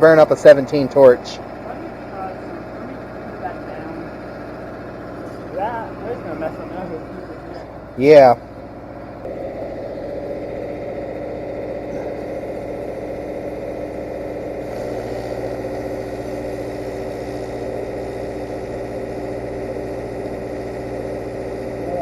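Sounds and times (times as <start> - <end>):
welding arc humming: 0.0 - 22.0
welding generator engine running: 0.0 - 22.0.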